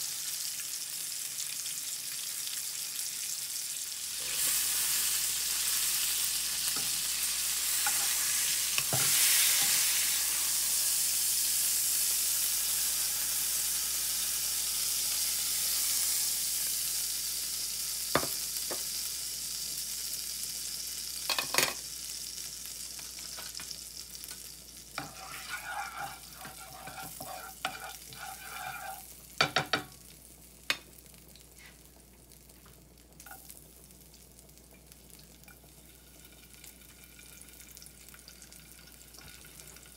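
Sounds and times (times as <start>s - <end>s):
steak sizzling in a frying pan: 0.0s - 39.9s.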